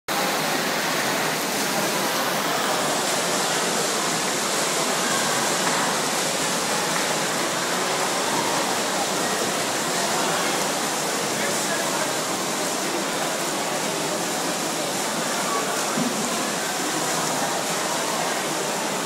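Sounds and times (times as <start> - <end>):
swimmers splashing in pool: 0.3 - 19.0.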